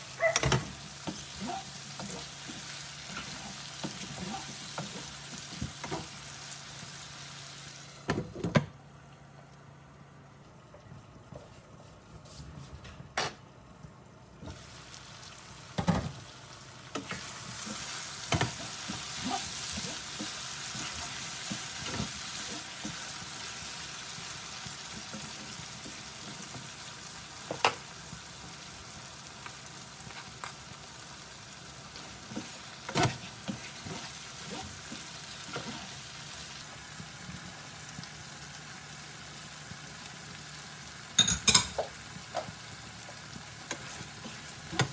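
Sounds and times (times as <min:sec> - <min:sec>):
food sizzling in a pan: 0:00.0 - 0:08.1, 0:14.4 - 0:44.9.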